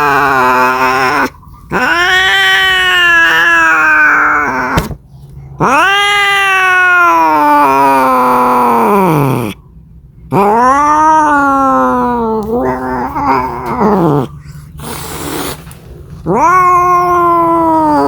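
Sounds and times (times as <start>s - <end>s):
cat yowling: 0.0s - 4.8s, 5.6s - 9.6s, 10.3s - 15.6s, 16.2s - 18.0s.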